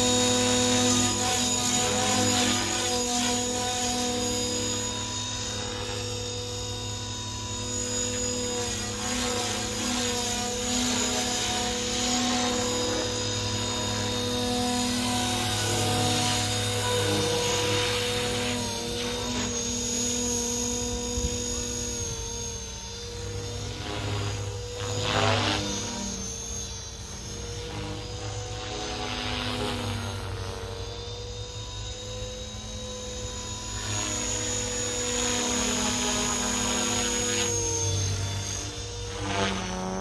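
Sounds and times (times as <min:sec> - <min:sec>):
model helicopter whine: 0:00.0 - 0:40.0.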